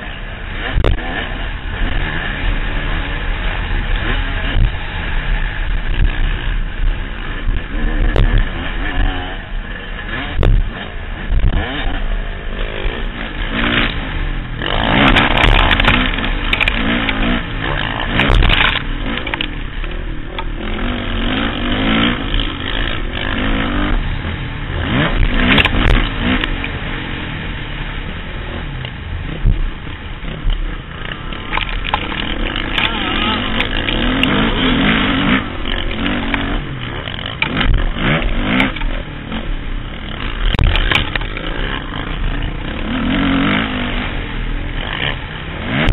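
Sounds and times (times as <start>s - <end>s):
wind noise: 0.0s - 36.8s
motocross bike engine revving: 0.0s - 45.9s.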